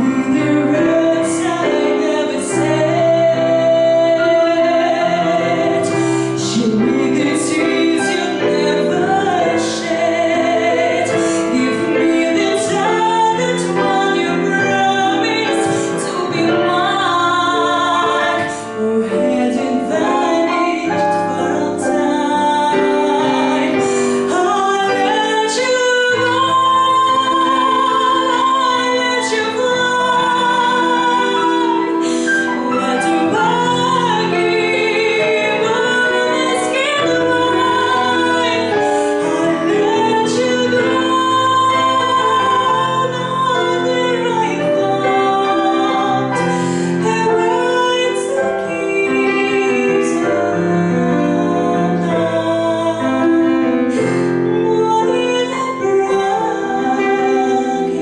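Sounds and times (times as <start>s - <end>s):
digital piano: 0.0s - 58.0s
woman singing a ballad: 0.0s - 58.0s.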